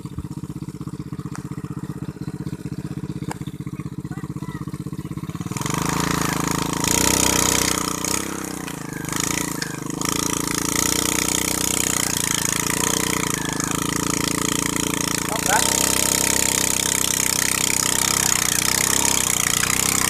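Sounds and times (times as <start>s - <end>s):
machine engine revving up: 0.0s - 20.0s.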